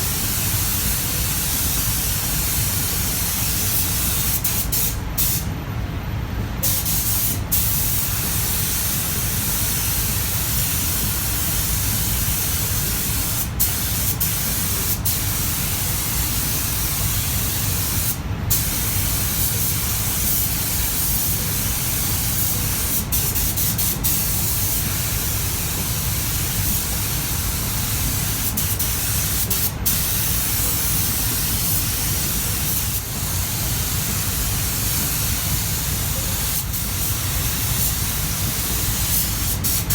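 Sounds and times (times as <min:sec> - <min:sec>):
spray gun hissing: 0:06.6 - 0:35.7, 0:36.5 - 0:39.9.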